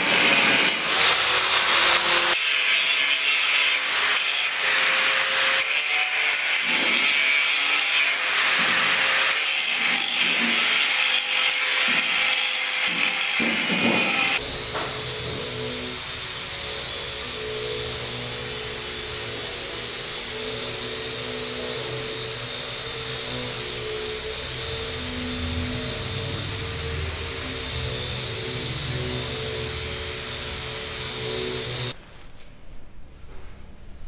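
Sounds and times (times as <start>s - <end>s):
harsh rasping sawing: 0.0s - 2.5s, 3.4s - 32.0s
dull low steady tool noise: 0.0s - 3.0s, 7.5s - 32.0s.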